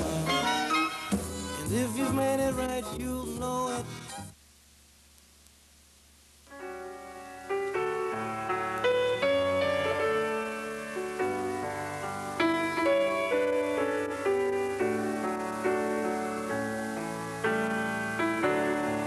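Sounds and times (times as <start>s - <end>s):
piano music: 0.0s - 3.8s, 6.5s - 19.0s.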